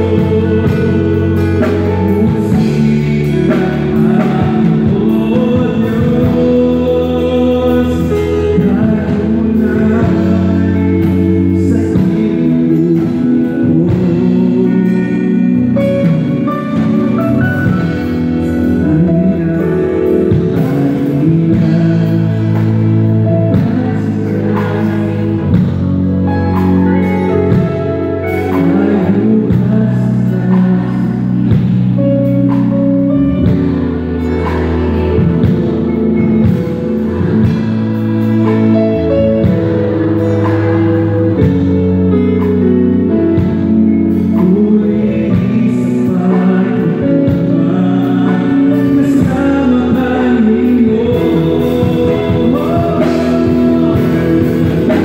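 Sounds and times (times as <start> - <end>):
drums: 0.0 - 55.0
electric bass: 0.0 - 55.0
electric guitar: 0.0 - 55.0
keyboard: 0.0 - 55.0
person singing: 0.0 - 55.0.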